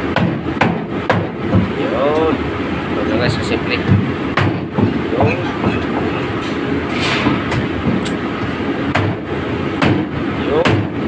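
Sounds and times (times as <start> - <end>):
steady rumbling background noise: 0.0 - 11.0.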